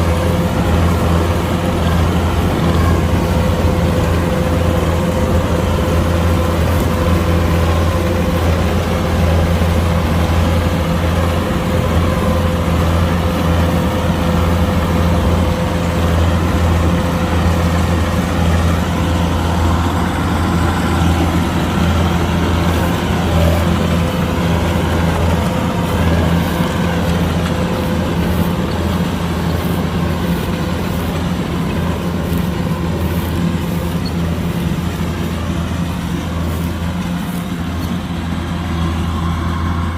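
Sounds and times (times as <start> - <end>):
combine harvester engine droning: 0.0 - 39.9
thin steady whine: 0.0 - 39.9.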